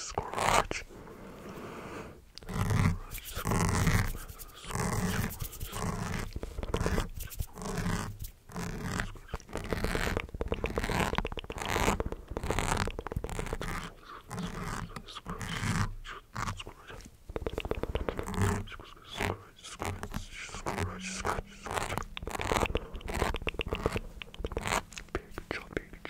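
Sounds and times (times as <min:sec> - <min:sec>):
wet clicky mouth sounds: 0:02.3 - 0:26.0.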